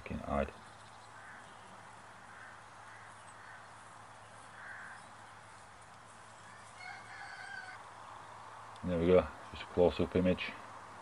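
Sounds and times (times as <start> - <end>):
distant bird calls: 0.0 - 11.0.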